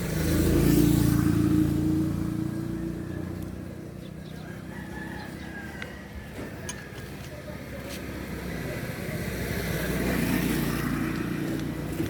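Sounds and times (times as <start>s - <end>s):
passing vehicle engine: 0.0s - 12.0s.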